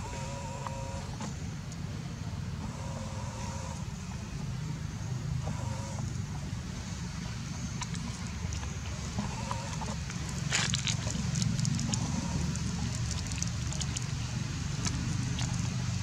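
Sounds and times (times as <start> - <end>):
motor vehicle rumbling: 0.0 - 16.0.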